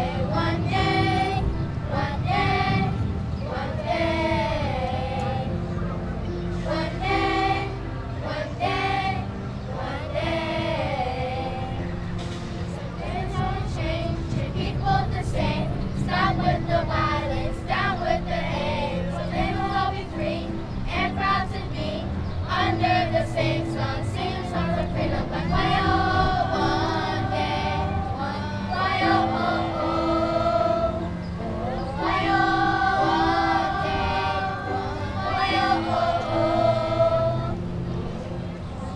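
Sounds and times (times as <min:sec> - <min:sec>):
children's choir singing: 0:00.0 - 0:05.9, 0:06.5 - 0:38.9.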